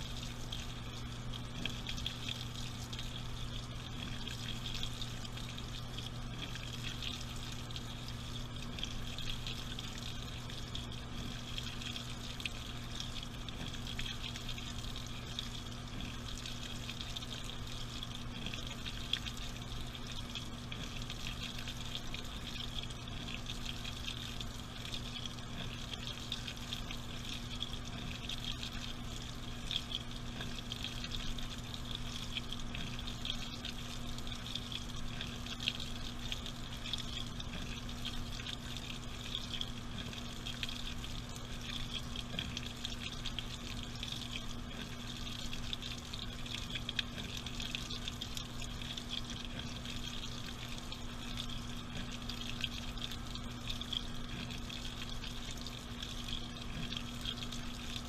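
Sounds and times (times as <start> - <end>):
washing machine low hum: 0.0 - 58.0
water streaming into drum: 0.0 - 58.0.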